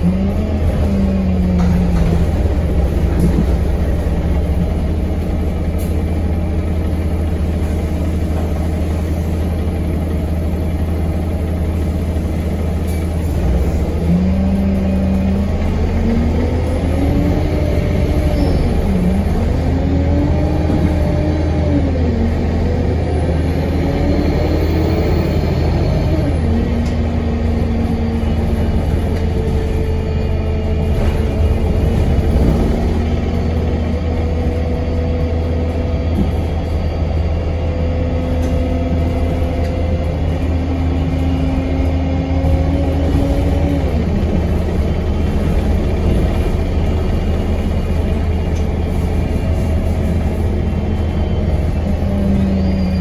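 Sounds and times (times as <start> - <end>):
bus engine drone: 0.0 - 53.0.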